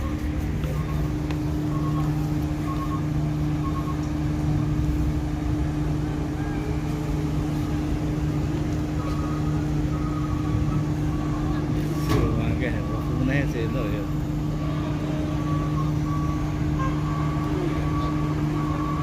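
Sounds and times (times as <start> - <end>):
machinery droning and humming: 0.0 - 19.0.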